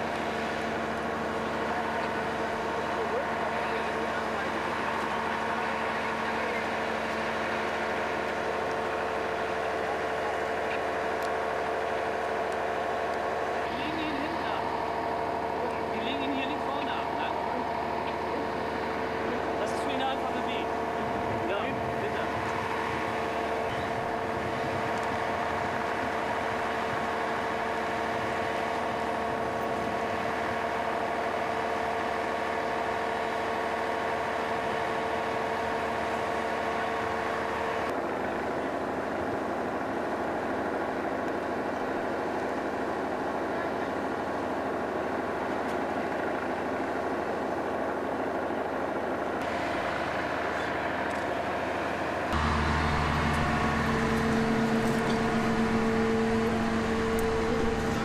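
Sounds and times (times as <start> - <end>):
heavy vehicle engines idling: 0.0 - 58.0.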